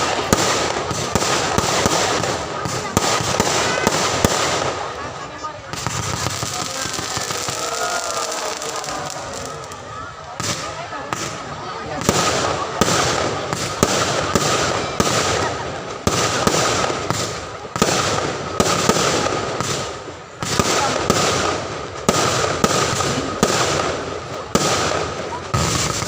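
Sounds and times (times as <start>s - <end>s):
fireworks crackle and rumble: 0.0s - 26.0s.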